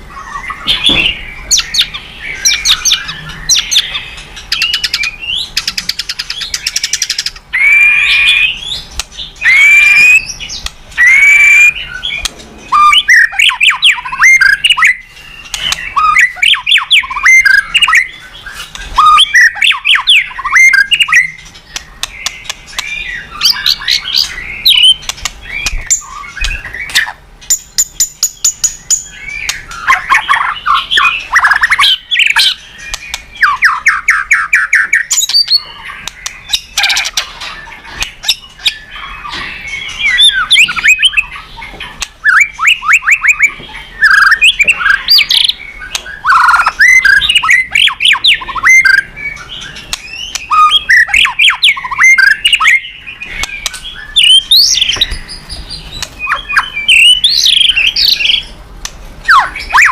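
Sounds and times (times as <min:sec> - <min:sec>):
songbird singing varied song: 0:00.0 - 0:59.9.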